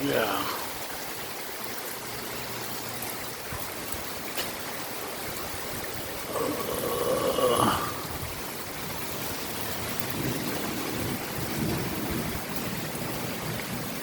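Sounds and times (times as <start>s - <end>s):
heavy rain: 0.0s - 14.0s
water splashing off rain gutters: 0.0s - 14.0s.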